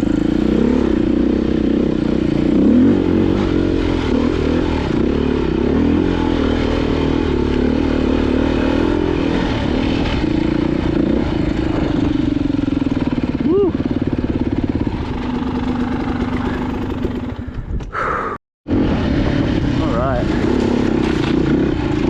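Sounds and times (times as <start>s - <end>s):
motorcycle engine revving: 0.0s - 17.6s, 18.7s - 22.0s
motorcycle rattling: 0.0s - 17.9s, 18.7s - 22.0s.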